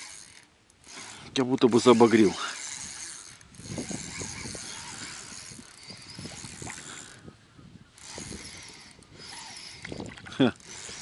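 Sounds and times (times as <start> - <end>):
fishing reel ratcheting: 0.0 - 7.3, 7.9 - 11.0.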